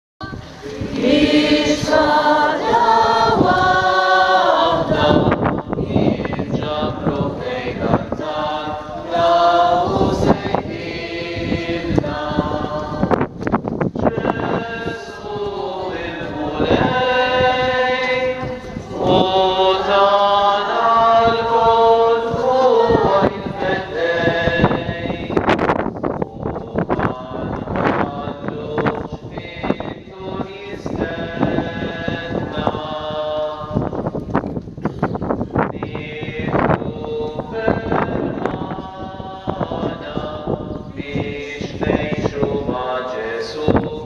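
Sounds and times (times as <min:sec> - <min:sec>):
congregation singing a hymn: 0:00.2 - 0:34.5, 0:35.2 - 0:44.0.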